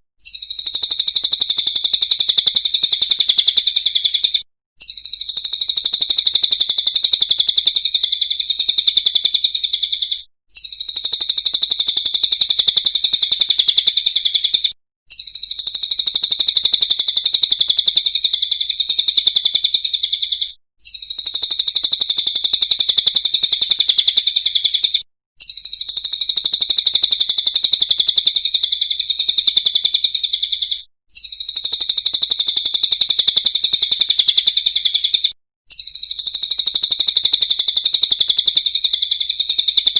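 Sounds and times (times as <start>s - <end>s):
bird high-pitched trill: 0.2s - 39.9s.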